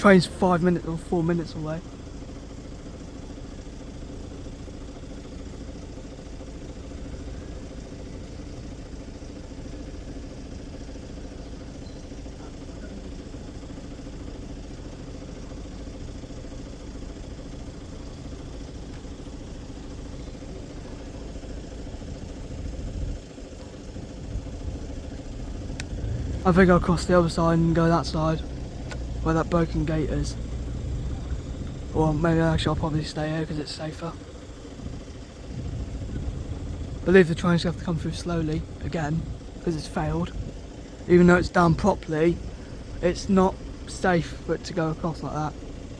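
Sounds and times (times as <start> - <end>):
vehicle engine idling: 0.0 - 45.9.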